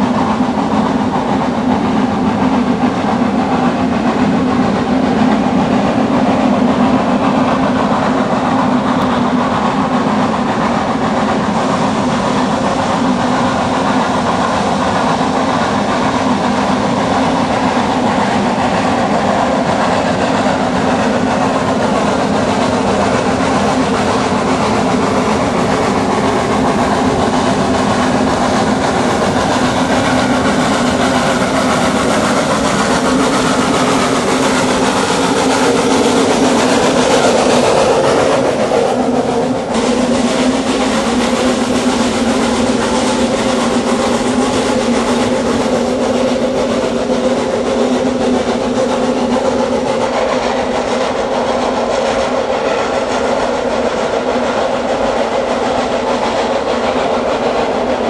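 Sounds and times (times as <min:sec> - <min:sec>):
rack railway train running: 0:00.0 - 0:58.0.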